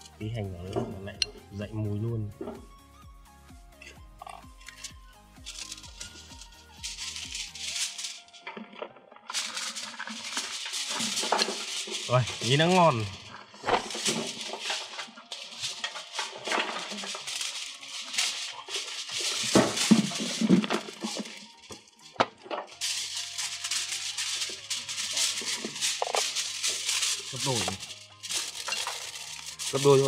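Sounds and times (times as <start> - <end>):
background music with low notes: 0.0 - 30.0
aluminium foil crinkling: 3.8 - 30.0.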